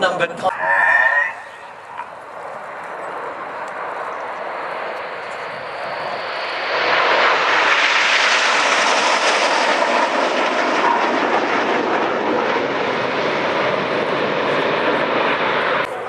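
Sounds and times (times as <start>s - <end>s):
jets passing: 0.0s - 16.0s.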